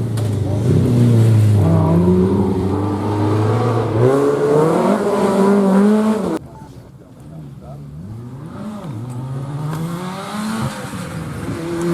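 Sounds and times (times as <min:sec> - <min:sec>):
car engine revving: 0:00.0 - 0:06.4, 0:07.9 - 0:11.9.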